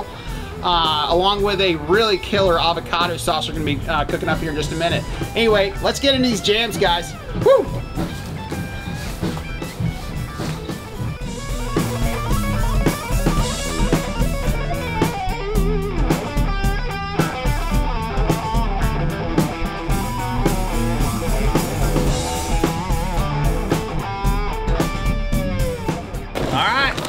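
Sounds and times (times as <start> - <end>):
bass guitar: 0.0 - 27.0
drum kit: 0.0 - 27.0
electric guitar lead notes: 4.1 - 26.3.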